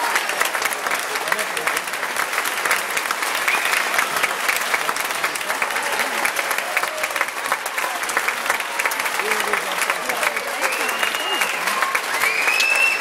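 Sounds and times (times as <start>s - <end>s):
audience clapping: 0.0s - 13.0s.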